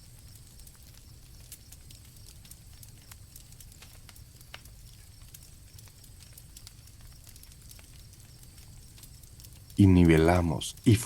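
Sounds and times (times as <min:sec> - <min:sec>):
campfire crackling and popping: 0:00.0 - 0:11.0
crickets chirping: 0:00.0 - 0:11.0.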